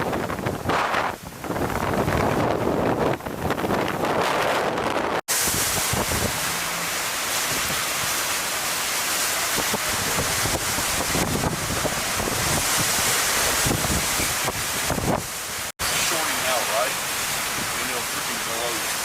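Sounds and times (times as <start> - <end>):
hurricane wind blowing: 0.0 - 19.0.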